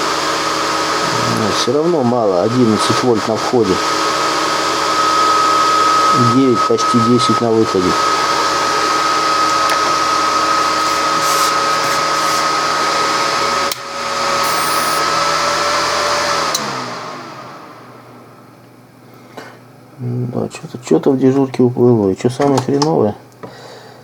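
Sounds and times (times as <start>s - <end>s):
cooling fan whirring: 0.0s - 24.0s.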